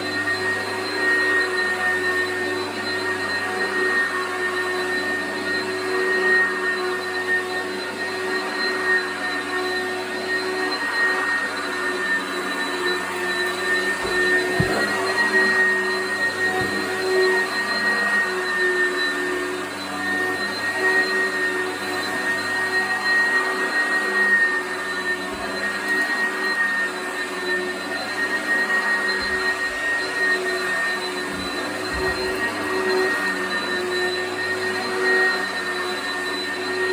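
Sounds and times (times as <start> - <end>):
vacuum cleaner on carpet: 0.0 - 36.9.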